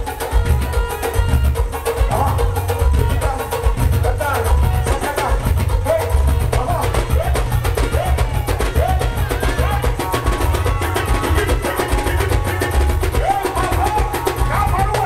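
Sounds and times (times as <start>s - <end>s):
loud dance music through speakers: 0.1s - 15.0s.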